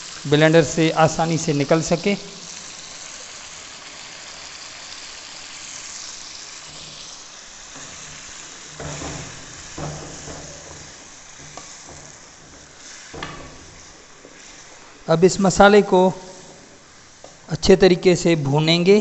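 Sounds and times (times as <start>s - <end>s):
sauce sizzling in hot oil: 0.0s - 18.0s.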